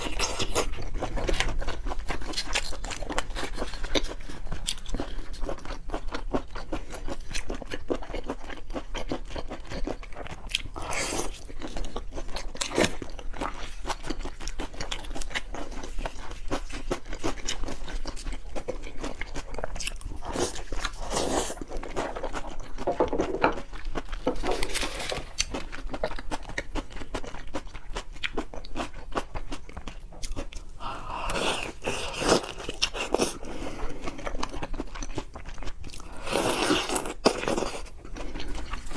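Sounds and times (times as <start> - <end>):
chewing and biting seafood: 0.0 - 38.9.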